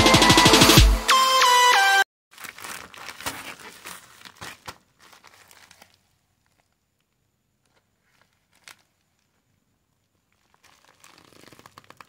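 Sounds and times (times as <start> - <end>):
plastic bag crinkling: 2.3 - 12.0.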